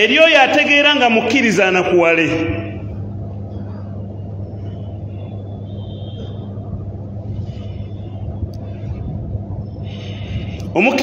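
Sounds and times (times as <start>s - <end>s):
low hum: 0.0s - 11.0s
rumbling noise: 1.8s - 11.0s.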